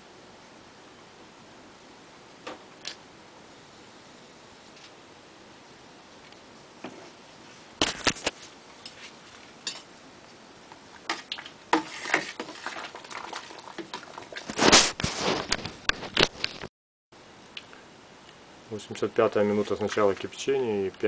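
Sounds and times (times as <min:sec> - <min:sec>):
faint steady hiss: 0:00.0 - 0:16.6, 0:17.2 - 0:21.0.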